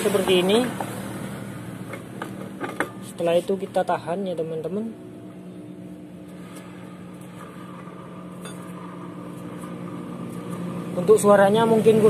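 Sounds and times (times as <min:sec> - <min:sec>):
wheel and pulley whirring hum: 0:00.0 - 0:12.0.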